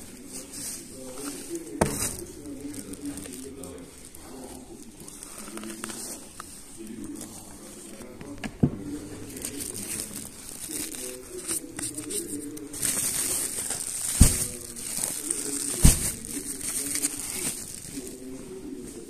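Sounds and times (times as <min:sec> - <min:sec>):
sack rustling: 0:00.0 - 0:08.1, 0:08.8 - 0:19.0.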